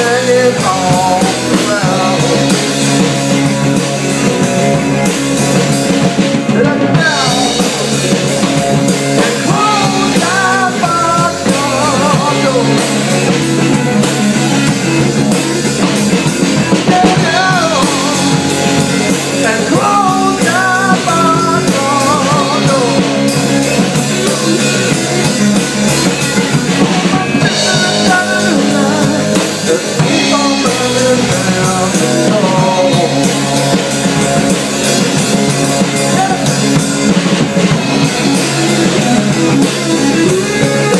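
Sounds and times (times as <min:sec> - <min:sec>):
blues rock band playing: 0:00.0 - 0:40.9
drum kit: 0:00.0 - 0:40.9
guitar strumming: 0:00.0 - 0:40.9
wavering lead guitar line: 0:00.0 - 0:40.9.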